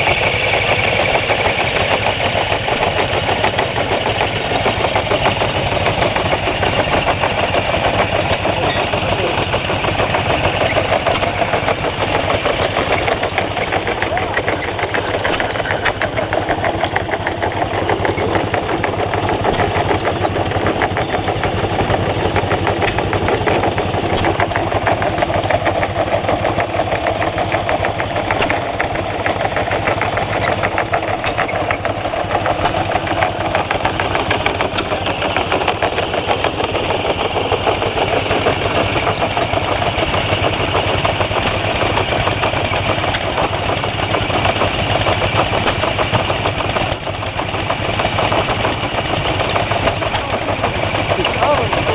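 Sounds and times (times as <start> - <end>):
stationary engines running: 0.0 - 51.9.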